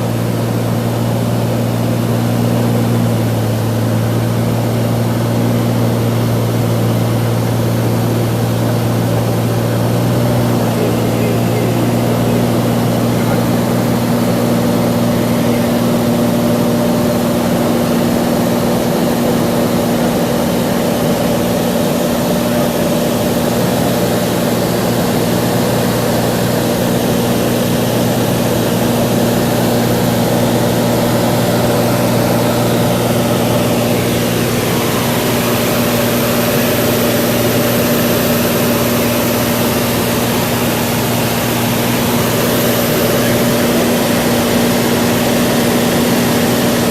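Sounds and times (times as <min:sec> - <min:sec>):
propeller plane engine droning: 0:00.0 - 0:46.9.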